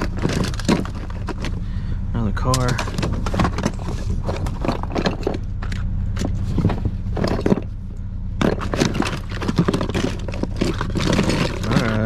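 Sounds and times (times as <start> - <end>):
small objects clattering in a box: 0.0 - 1.6, 2.5 - 7.8, 8.4 - 12.0
low hum: 0.0 - 12.0.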